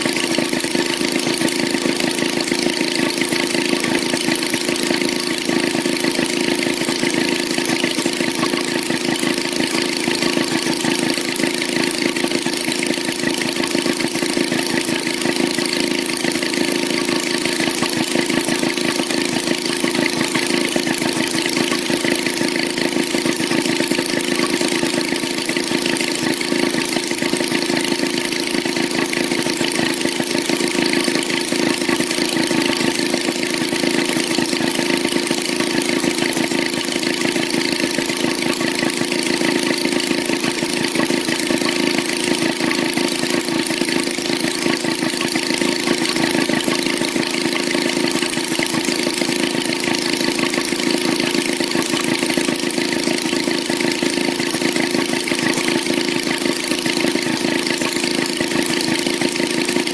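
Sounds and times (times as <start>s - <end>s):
two-stroke engine idling: 0.0s - 59.9s.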